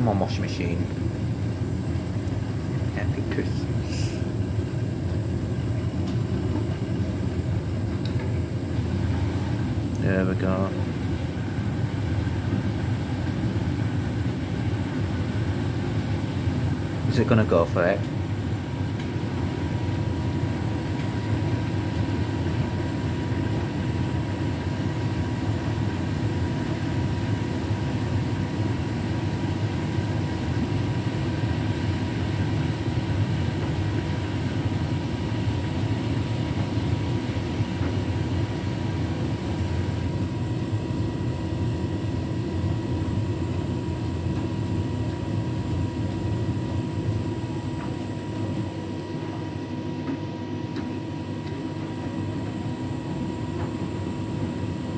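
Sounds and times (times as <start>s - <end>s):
washing machine drum turning: 4.6s - 54.9s.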